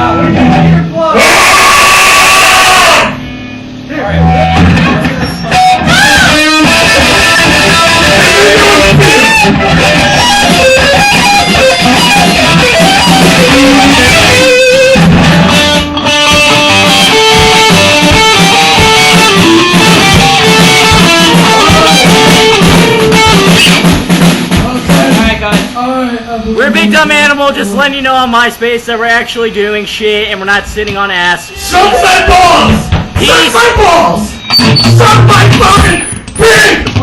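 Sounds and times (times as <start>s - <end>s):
rock band playing loud: 0.0s - 25.8s, 31.7s - 37.0s.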